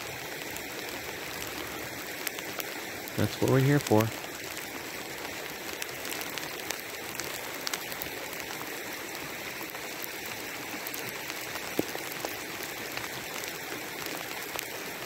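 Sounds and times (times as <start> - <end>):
sleet and rain falling: 0.0 - 15.0.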